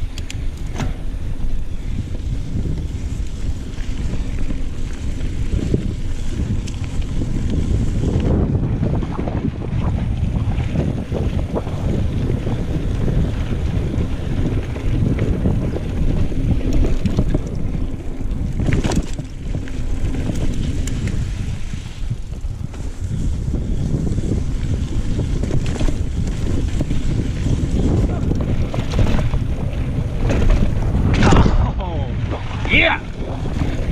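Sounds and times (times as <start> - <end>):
bike rattling and bumps: 0.0 - 33.9
wind rushing over microphone: 0.0 - 33.9.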